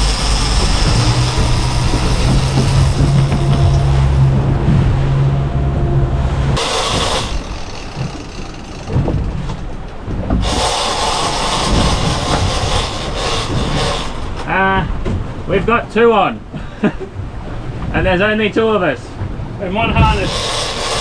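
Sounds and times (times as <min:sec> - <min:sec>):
boat engine humming: 0:00.0 - 0:21.0
wind and water rushing: 0:00.0 - 0:21.0.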